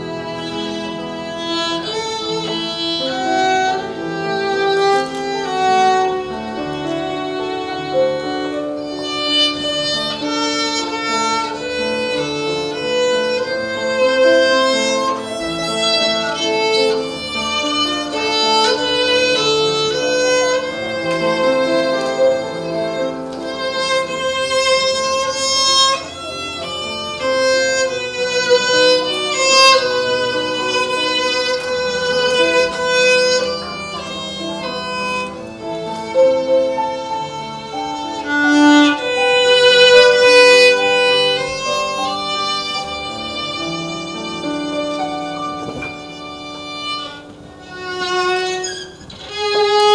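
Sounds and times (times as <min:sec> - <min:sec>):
lower accompaniment: 0:00.0 - 0:49.9
violin playing slow melody: 0:00.0 - 0:49.9.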